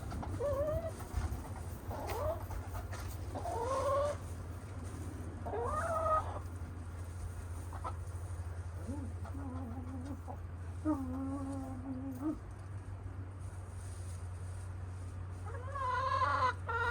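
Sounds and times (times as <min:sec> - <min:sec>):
hens clucking: 0:00.0 - 0:12.7, 0:14.0 - 0:16.9.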